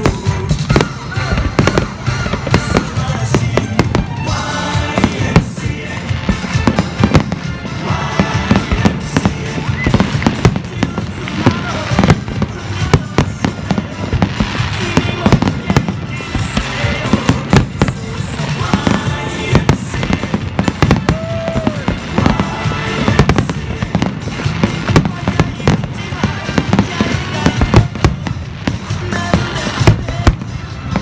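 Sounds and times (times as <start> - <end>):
fireworks bangs and crackles: 0.0 - 31.0
loud pop music with singing: 0.0 - 31.0.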